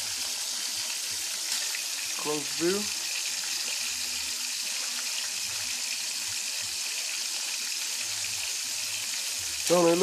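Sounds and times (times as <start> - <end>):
pork chops sizzling: 0.0 - 10.0.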